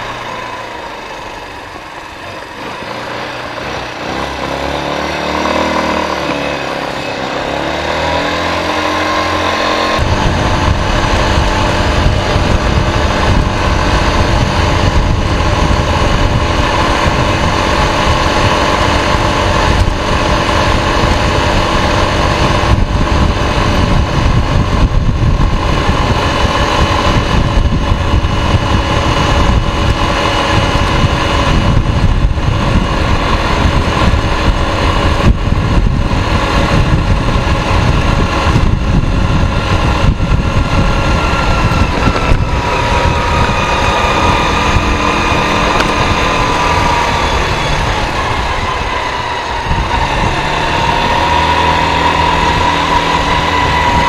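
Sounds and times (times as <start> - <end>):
quad bike engine running: 0.0 - 54.0
wind buffeting microphone: 0.0 - 54.0.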